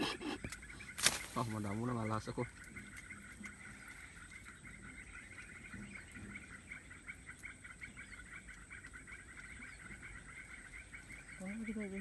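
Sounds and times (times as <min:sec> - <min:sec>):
small animals chirping: 0:00.0 - 0:12.0.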